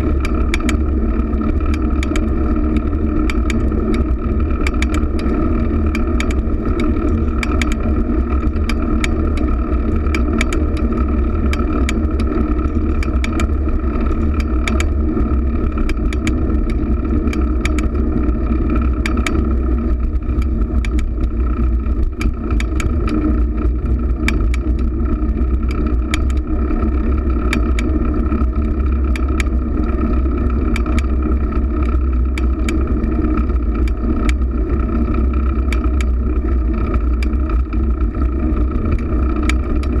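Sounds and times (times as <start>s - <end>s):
bicycle clicks and rattles: 0.0s - 40.0s
bicycle road rumble: 0.0s - 40.0s.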